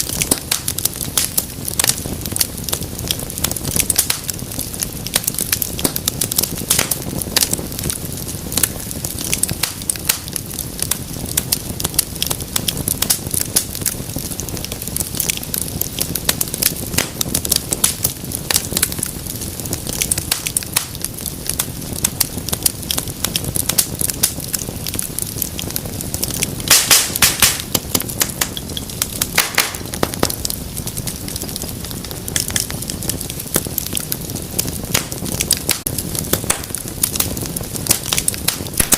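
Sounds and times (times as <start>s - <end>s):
fire crackling and popping: 0.0s - 38.9s
low rush of flame: 0.0s - 38.9s.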